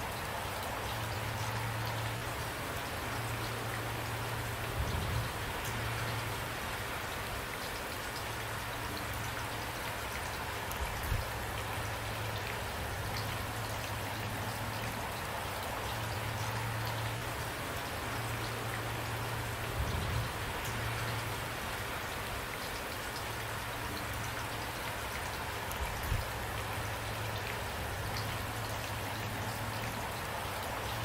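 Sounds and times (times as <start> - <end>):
rain pattering on a surface: 0.0 - 31.0.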